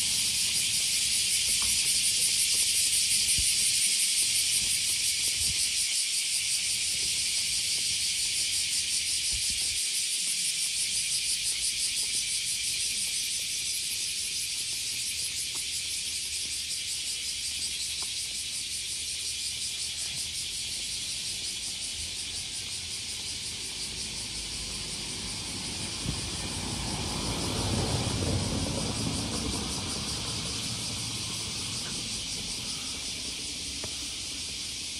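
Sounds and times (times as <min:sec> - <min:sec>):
cicadas singing: 0:00.0 - 0:34.9.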